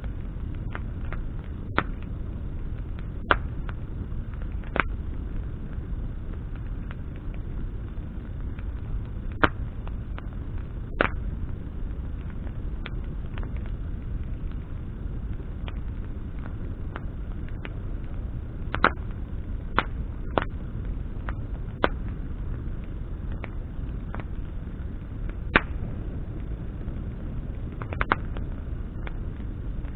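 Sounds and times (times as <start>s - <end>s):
burning wood crackling and popping: 0.0s - 29.9s
low rush of fire: 0.0s - 29.9s.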